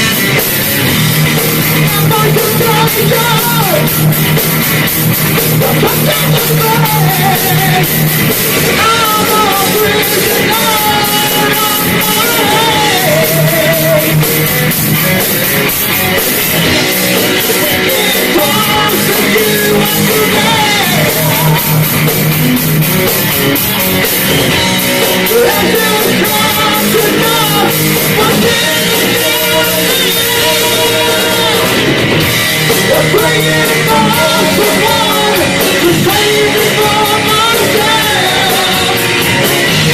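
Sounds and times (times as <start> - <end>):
drums: 0.0 - 39.9
guitars: 0.0 - 39.9
sung vocals: 1.4 - 22.6, 24.5 - 39.9.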